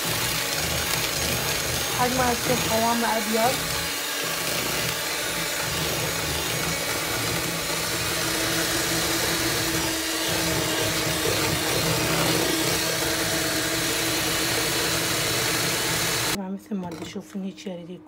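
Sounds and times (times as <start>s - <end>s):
electric mixer running: 0.0s - 16.4s.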